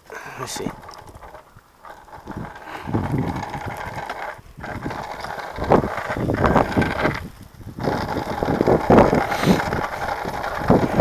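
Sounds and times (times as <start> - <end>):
bicycles rattling along a path: 0.0 - 11.0
wind rumbling on microphone: 0.0 - 11.0.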